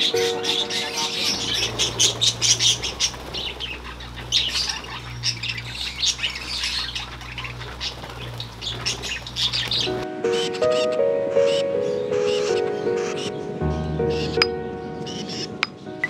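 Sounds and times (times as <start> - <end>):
budgerigars chattering: 0.0 - 15.9.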